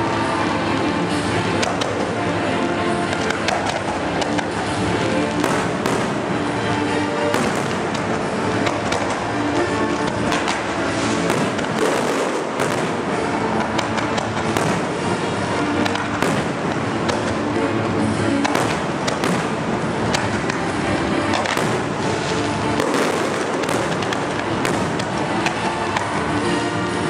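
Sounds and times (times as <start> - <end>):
fireworks bursting and crackling: 0.0 - 27.0
music playing: 0.0 - 27.0.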